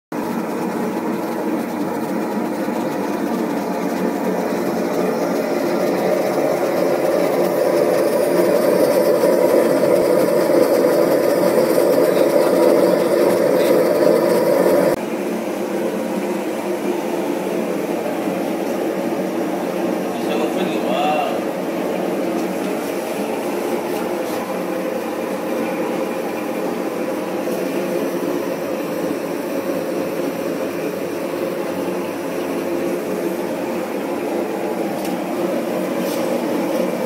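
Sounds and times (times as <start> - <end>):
burner flame roaring: 0.2 - 37.0.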